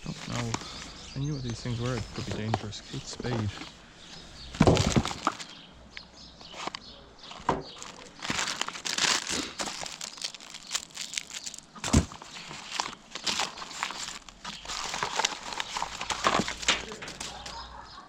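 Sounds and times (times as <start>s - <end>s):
paper and plastic crinkling: 0.0s - 5.6s, 6.4s - 17.8s.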